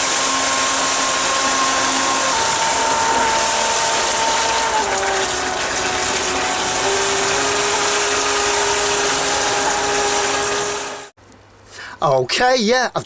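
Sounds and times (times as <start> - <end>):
electric motor whine: 0.0 - 11.1
water churning and splashing: 0.0 - 11.1.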